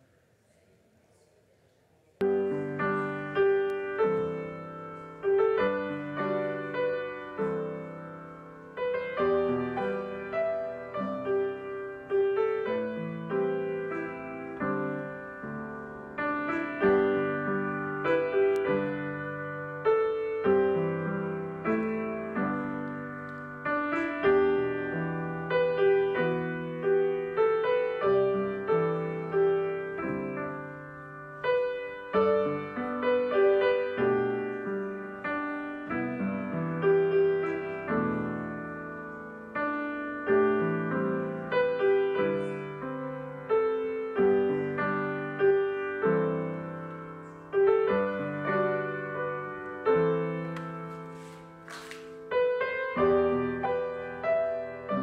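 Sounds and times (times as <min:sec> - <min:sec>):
slow gentle piano piece: 0:00.0 - 0:55.0.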